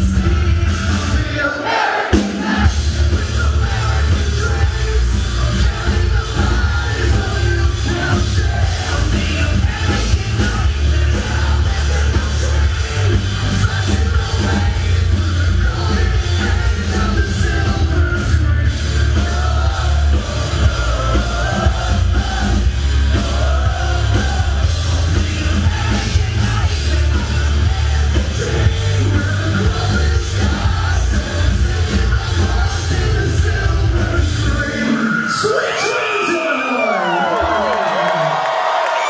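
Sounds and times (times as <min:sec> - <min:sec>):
metalcore band playing: 0:00.0 - 0:35.4
singer's vocals: 0:00.0 - 0:39.0.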